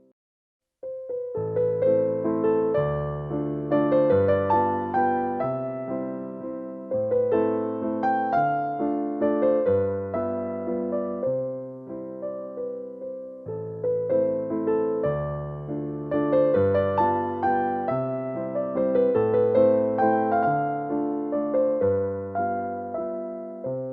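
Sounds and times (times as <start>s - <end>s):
slow gentle piano music: 0.8s - 23.9s.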